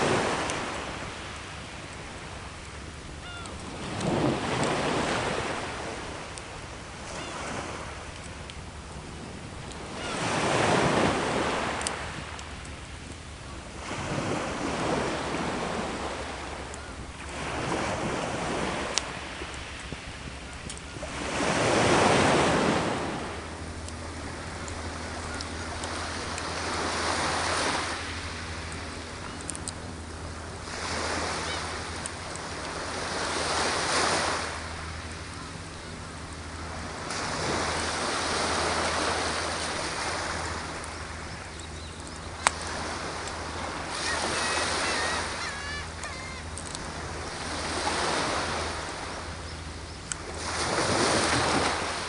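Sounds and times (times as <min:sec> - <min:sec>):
sea waves breaking on shore: 0:00.0 - 0:52.0.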